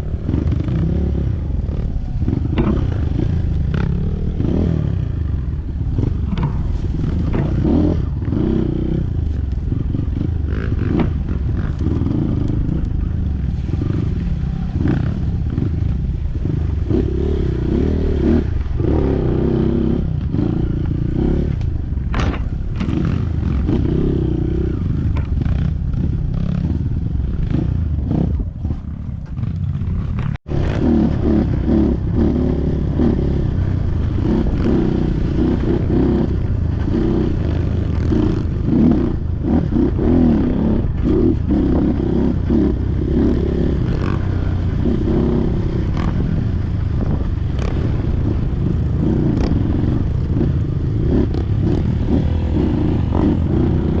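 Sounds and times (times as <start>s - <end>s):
motorcycle engine under load: 0.0s - 54.0s.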